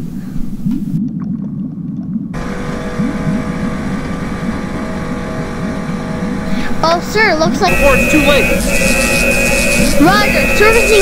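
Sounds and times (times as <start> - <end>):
low wavering rumble: 0.0 - 11.0
steady hum: 2.2 - 11.0.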